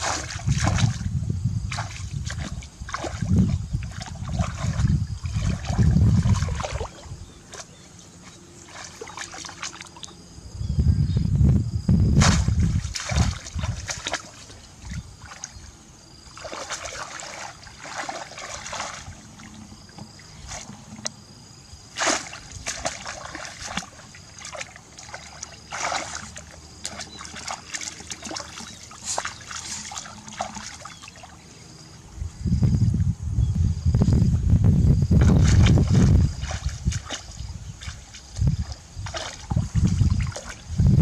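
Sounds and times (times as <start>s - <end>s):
shallow water splashing: 0.0s - 10.2s, 12.2s - 31.6s, 35.2s - 41.0s.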